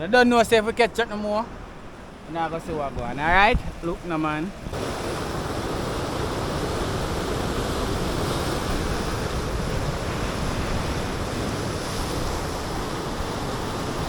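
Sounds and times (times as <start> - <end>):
surf washing against rocks: 0.0 - 14.0
wind on microphone: 0.0 - 14.0.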